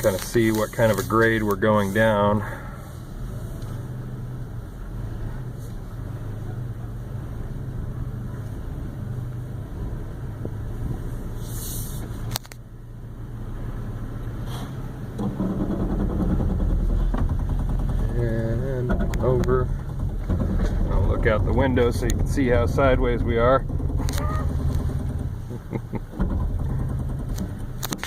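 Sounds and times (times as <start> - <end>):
truck drivetrain rumble: 0.0 - 28.0.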